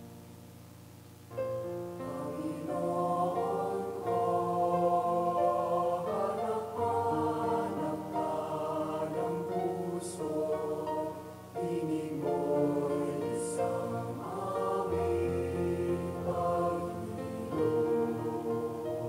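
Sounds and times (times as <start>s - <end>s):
choir singing held chords: 1.8s - 19.0s.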